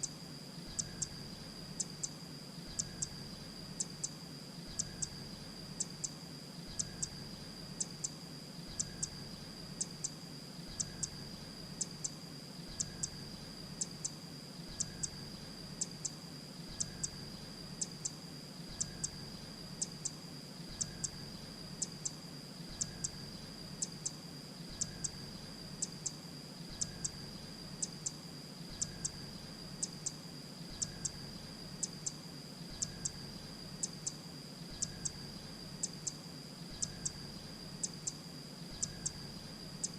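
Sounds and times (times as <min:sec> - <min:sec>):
steady high-pitched whine: 0:00.0 - 0:39.9.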